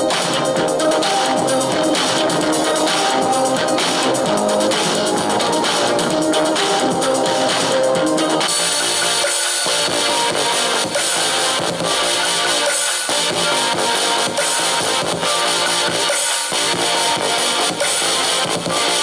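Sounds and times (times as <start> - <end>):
music through small speakers: 0.0 - 19.0.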